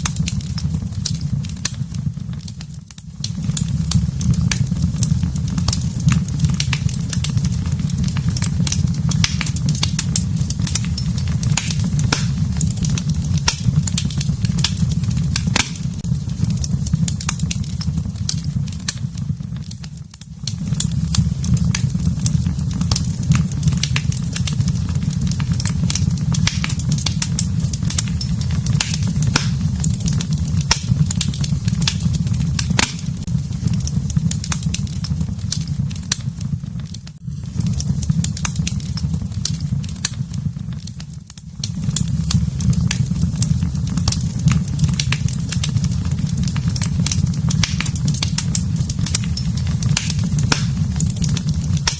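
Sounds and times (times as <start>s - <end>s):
fire crackling and popping: 0.0s - 51.9s
low rumble of fire: 0.0s - 51.9s.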